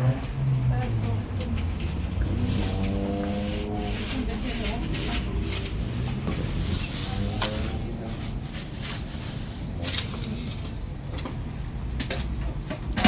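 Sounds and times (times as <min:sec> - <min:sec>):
indistinct voices: 0:00.0 - 0:11.4.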